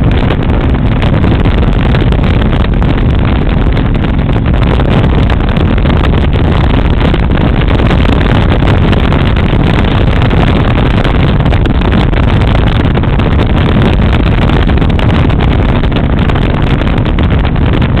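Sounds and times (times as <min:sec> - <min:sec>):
motorcycle engine droning: 0:00.0 - 0:18.0
wind rushing on microphone: 0:00.0 - 0:18.0.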